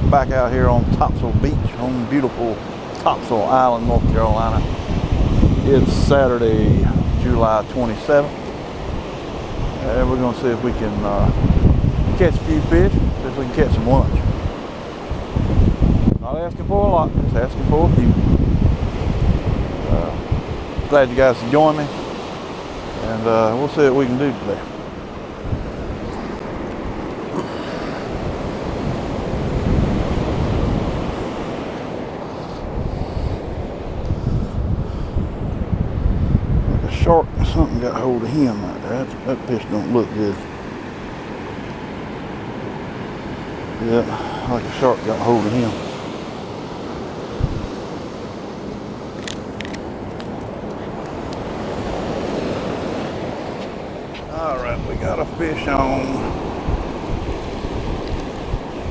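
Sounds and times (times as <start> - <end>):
ocean surf washing onto beach: 0.0 - 58.9
wind buffeting microphone: 0.0 - 58.9.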